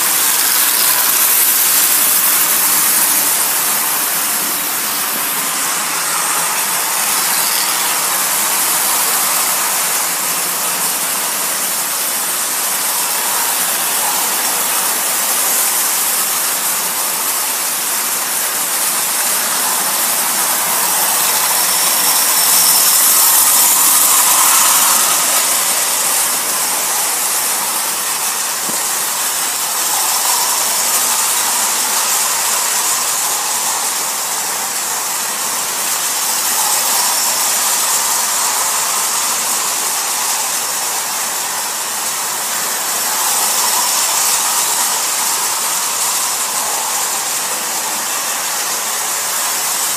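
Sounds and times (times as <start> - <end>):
toy trains whirring rattle: 0.0 - 49.9.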